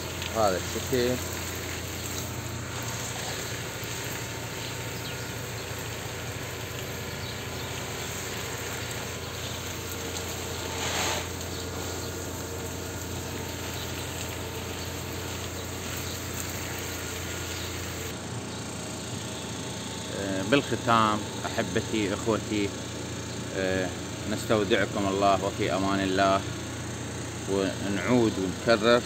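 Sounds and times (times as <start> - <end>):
hose water spraying on plants: 0.0 - 18.2, 23.5 - 29.0.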